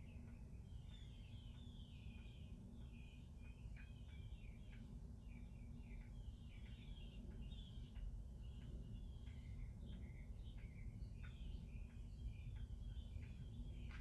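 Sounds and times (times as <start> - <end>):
faint birds chirping: 0.0 - 14.0
steady low rumble: 1.7 - 14.0.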